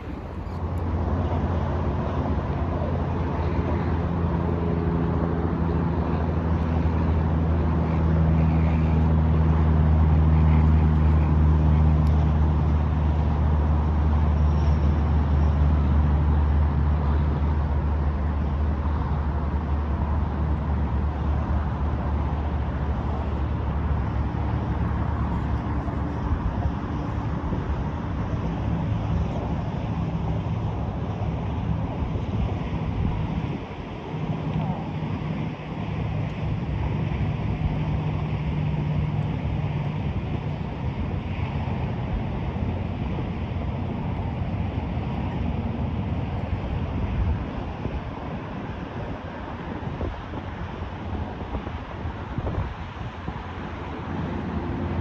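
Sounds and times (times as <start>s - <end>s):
low engine drone: 0.0s - 55.0s
wind on the microphone: 0.0s - 55.0s.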